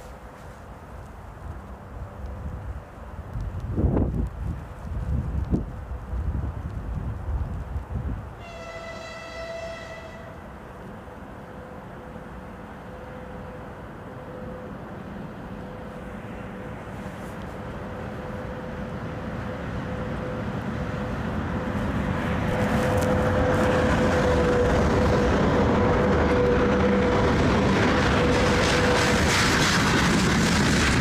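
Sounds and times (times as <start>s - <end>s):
electric locomotive with freight train: 0.0s - 31.0s.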